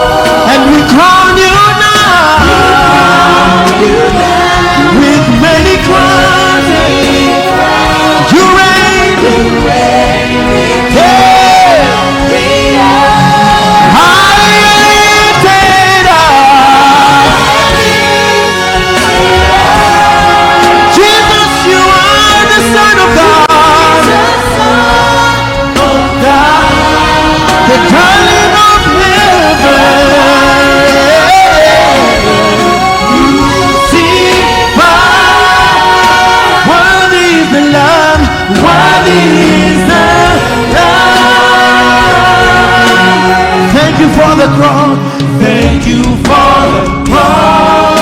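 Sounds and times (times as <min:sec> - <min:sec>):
congregation singing: 0:00.0 - 0:48.0
live band playing: 0:00.0 - 0:48.0.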